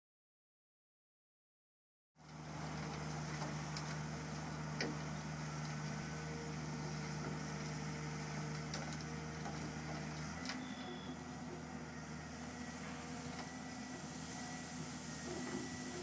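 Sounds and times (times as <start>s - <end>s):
excavator diesel engine running: 2.2s - 16.0s.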